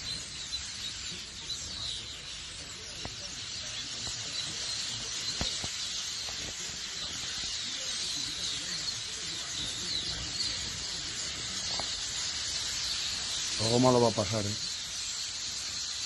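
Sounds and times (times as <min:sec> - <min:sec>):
flock of starlings chattering: 0:00.0 - 0:16.0.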